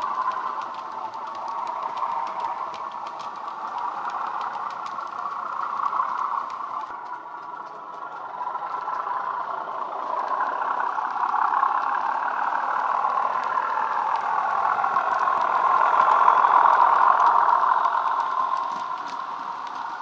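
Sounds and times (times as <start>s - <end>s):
faint clicks: 0.0s - 20.0s
model train diesel engine sound: 0.0s - 20.0s.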